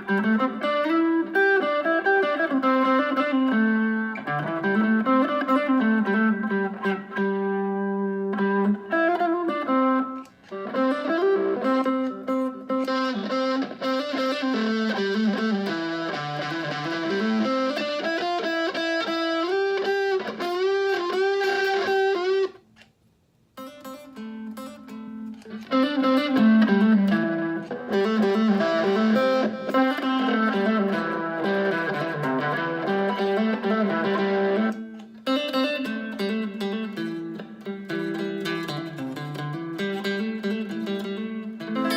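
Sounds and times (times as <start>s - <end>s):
electric guitar melody with bends: 0.0s - 41.9s.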